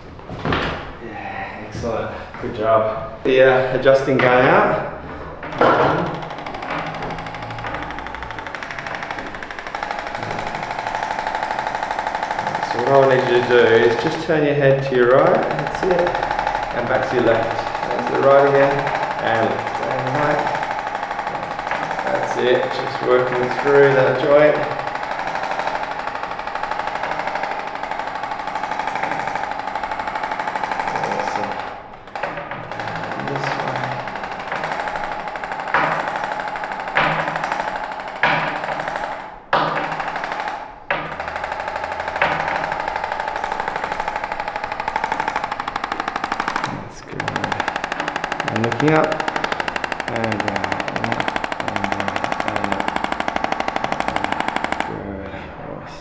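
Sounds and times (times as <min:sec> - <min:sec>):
percussion massager pulsing: 0:03.2 - 0:55.1
small motorised tool hammering: 0:04.2 - 0:55.0.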